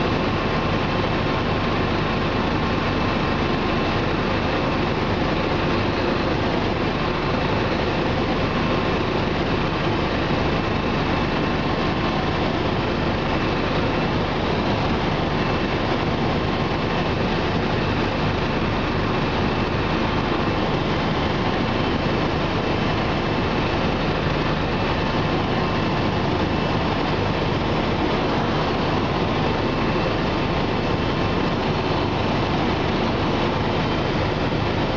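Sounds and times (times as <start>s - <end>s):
helicopter rotor and engine noise: 0.0s - 34.9s.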